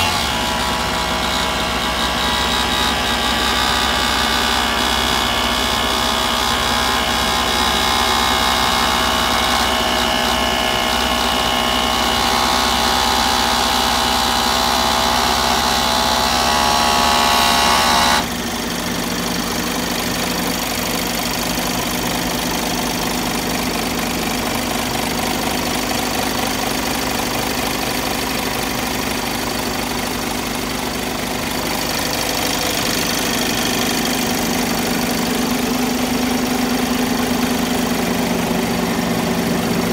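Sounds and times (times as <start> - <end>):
diesel engine idling: 0.0 - 16.3, 18.2 - 39.9.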